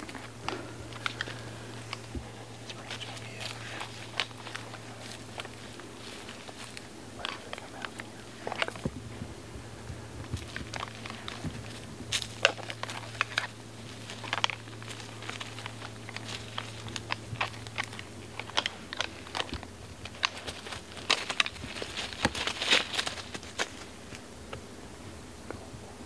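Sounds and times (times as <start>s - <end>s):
dry leaves crunching: 0.0s - 24.2s
low steady hum: 0.0s - 26.0s.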